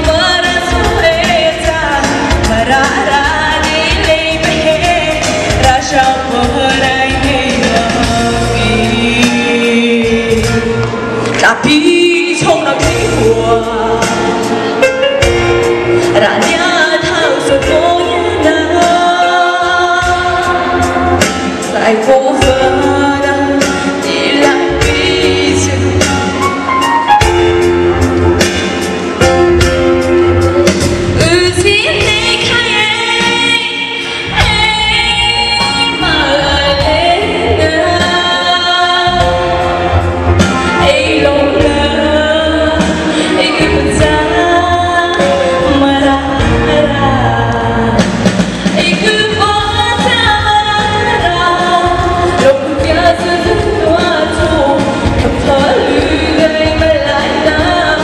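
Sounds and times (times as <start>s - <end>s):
woman singing into a microphone: 0.0s - 27.6s, 31.1s - 58.0s
instrumental accompaniment: 0.0s - 58.0s.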